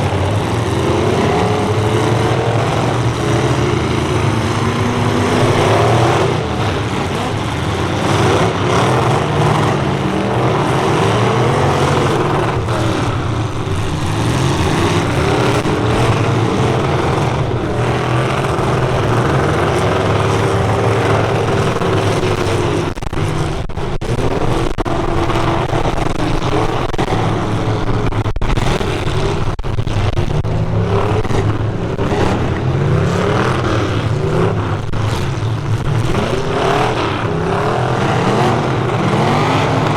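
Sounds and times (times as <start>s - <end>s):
truck engines revving: 0.0s - 39.9s
trucks colliding: 0.0s - 39.9s.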